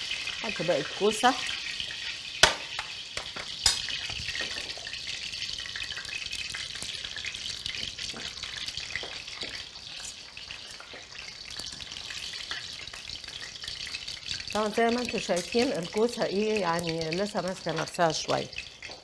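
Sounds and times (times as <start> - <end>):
slices sizzling in hot oil: 0.0 - 19.0.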